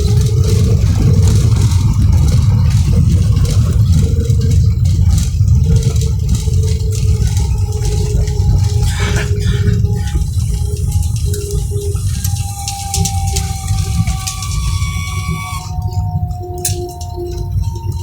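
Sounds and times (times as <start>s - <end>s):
engine hum: 0.0s - 18.0s
wheels and jet engines rumbling: 0.0s - 18.0s.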